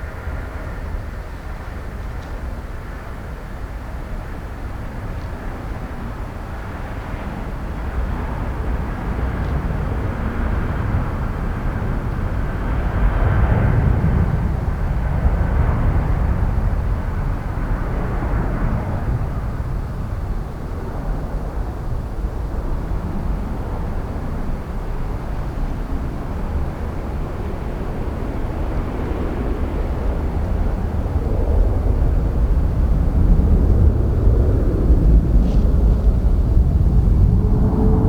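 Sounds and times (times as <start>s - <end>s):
jet engines passing: 7.2s - 38.0s.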